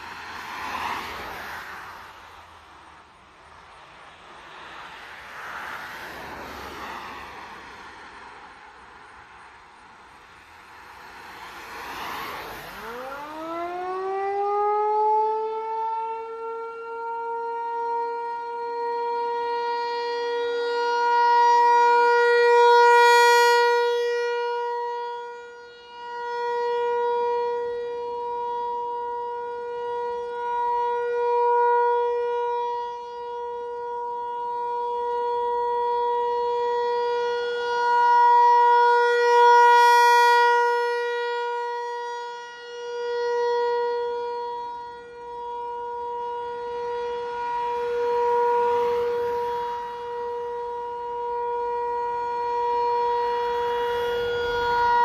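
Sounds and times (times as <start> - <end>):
rotating warning siren: 0.0 - 3.1, 4.2 - 55.0.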